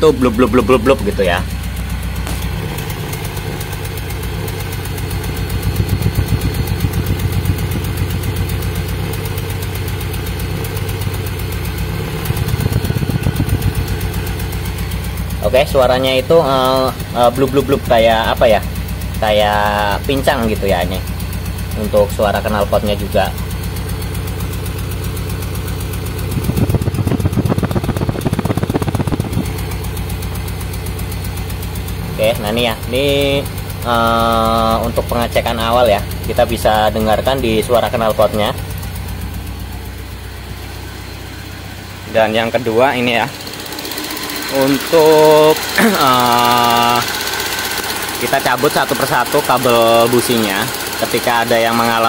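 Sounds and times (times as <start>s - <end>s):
rough idling engine exhaust: 0.0s - 52.0s.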